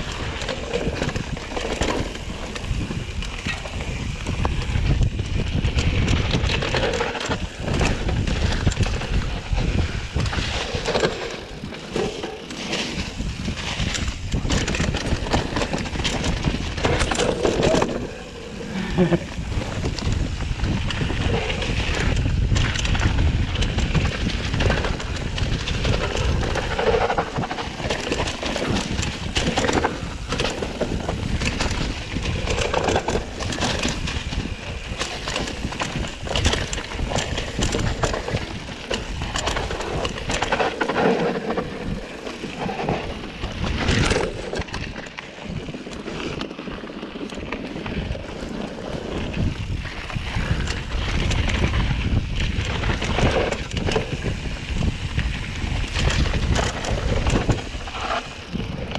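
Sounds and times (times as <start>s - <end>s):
bike clicks and rattles: 0.0s - 58.9s
bike tyres rolling over dirt: 0.0s - 58.9s.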